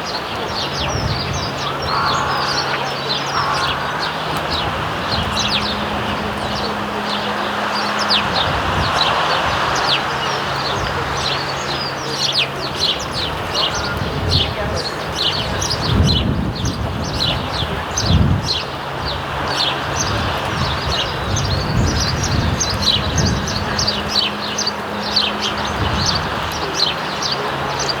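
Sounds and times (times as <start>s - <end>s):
sparrows chirping: 0.0s - 28.0s.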